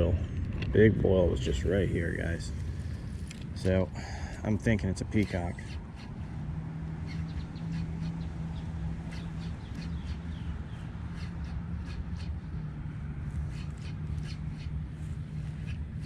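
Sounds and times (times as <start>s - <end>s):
birds chirping: 1.2s - 16.0s.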